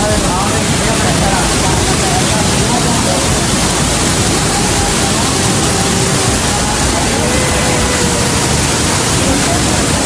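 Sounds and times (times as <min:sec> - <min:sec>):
faint voices: 0:00.0 - 0:10.0
waterfall rushing: 0:00.0 - 0:10.0.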